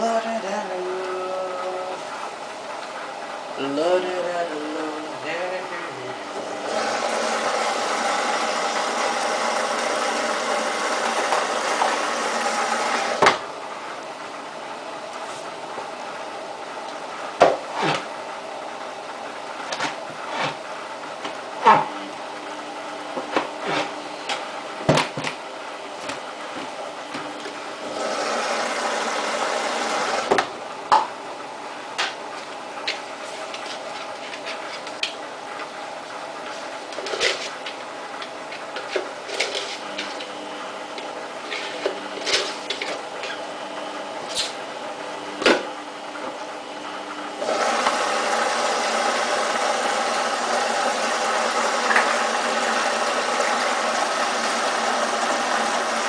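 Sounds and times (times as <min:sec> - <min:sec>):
washing machine hum: 0:00.0 - 0:56.0
washing machine rushing with whine: 0:00.0 - 0:56.0.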